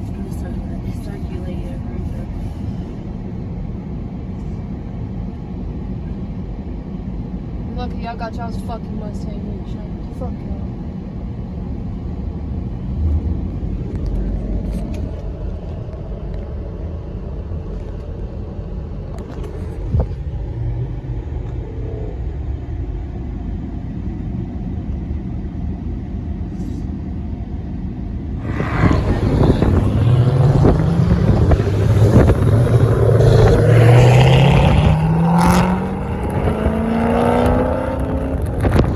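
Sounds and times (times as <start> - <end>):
car engine running and revving: 0.0 - 7.9, 9.0 - 25.0, 28.0 - 38.9.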